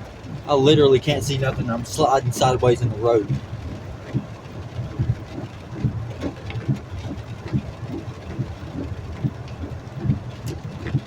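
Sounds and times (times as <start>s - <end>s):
car rumble: 0.0s - 11.0s
hail thumping on car: 0.1s - 11.0s.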